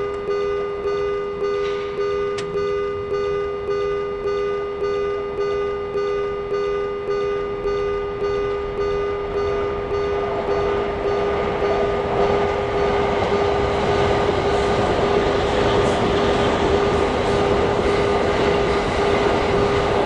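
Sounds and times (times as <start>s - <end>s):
railroad crossing bell ringing: 0.0s - 20.0s
train passing: 0.9s - 6.6s, 7.5s - 20.0s.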